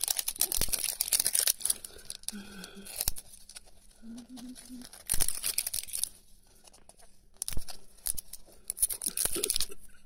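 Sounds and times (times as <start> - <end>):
plastic strip peeling and tearing: 0.0 - 9.8
plastic crinkling: 0.0 - 10.0.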